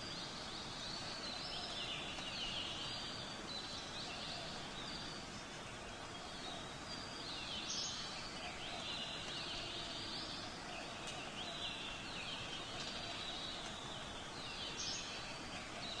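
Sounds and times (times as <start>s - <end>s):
background hiss: 0.0s - 16.0s
birds chirping: 0.0s - 16.0s.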